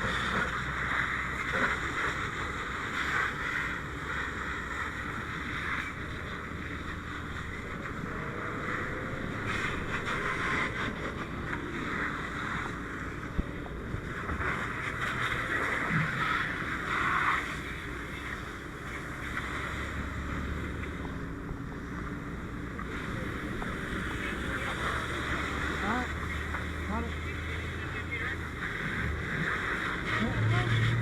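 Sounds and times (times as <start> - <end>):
engine rumbling: 0.0 - 31.0
fire hose spraying water: 0.0 - 31.0.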